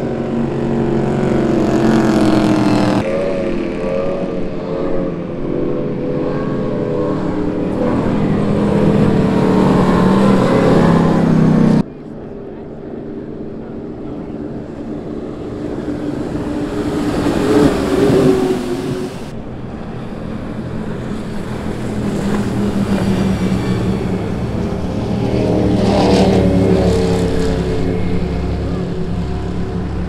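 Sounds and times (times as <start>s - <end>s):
powerboat engines at high revs: 0.0s - 30.0s.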